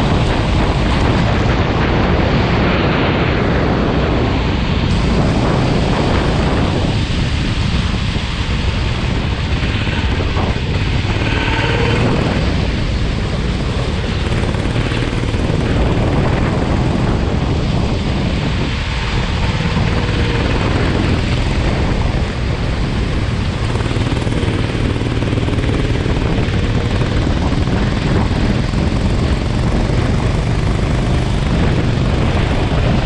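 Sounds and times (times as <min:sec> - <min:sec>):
go-kart engine: 0:00.0 - 0:33.0
wind rush on microphone: 0:00.0 - 0:33.0.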